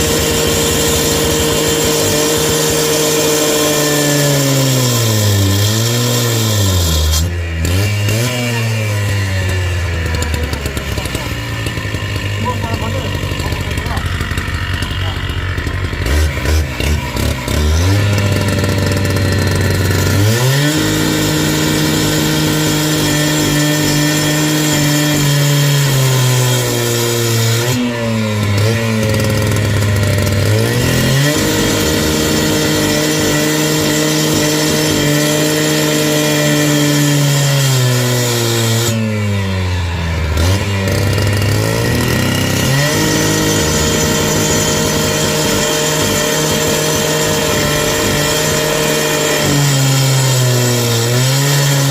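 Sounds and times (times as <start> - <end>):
small petrol engine revving: 0.0 - 51.9.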